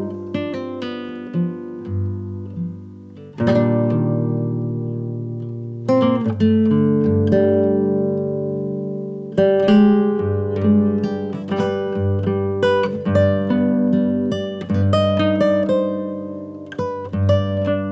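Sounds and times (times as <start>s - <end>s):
acoustic guitar picking melody: 0.0s - 17.9s.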